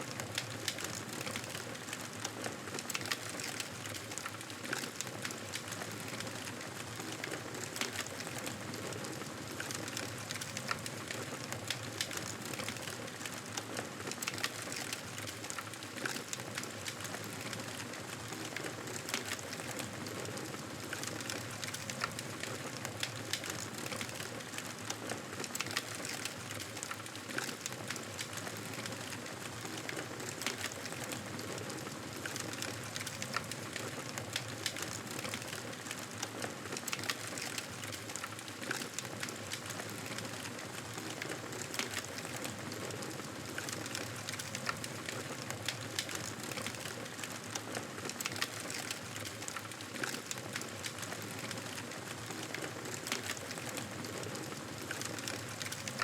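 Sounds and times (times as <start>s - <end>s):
wood fire crackling and popping: 0.2s - 56.0s.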